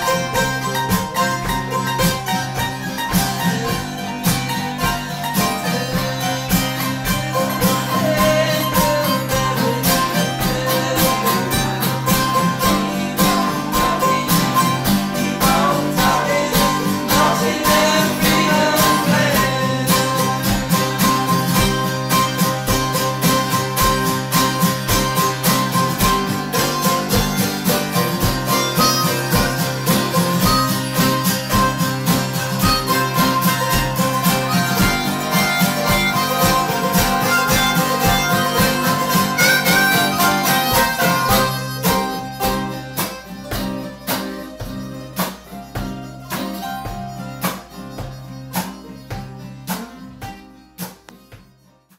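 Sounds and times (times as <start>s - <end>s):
harmonica playing lead: 0.0s - 51.7s
guitars strumming: 0.0s - 51.9s.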